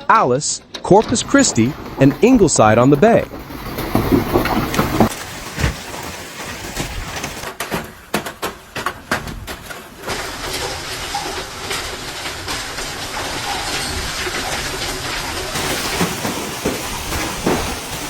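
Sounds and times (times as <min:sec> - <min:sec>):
hailstones pounding hard surfaces: 0:01.0 - 0:18.0.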